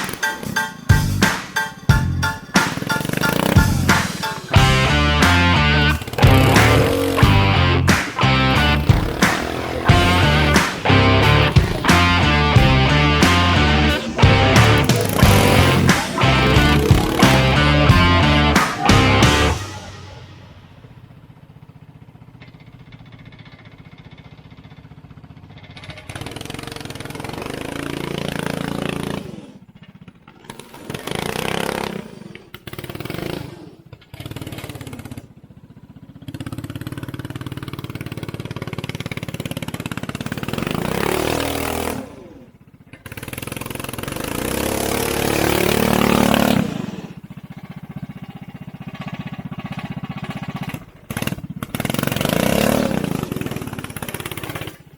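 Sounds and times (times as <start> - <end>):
go-kart engine idling and revving: 0.0 - 54.9.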